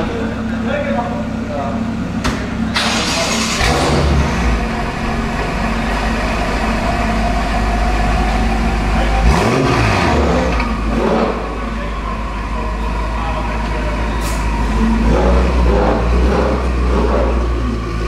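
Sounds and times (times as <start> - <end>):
car engine idling with rev blip: 0.0 - 18.0.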